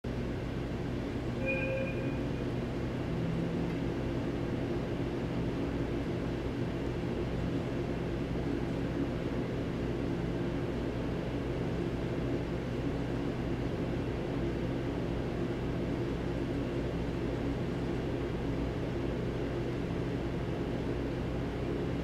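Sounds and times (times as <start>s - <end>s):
idling train machinery hum: 0.0s - 22.0s.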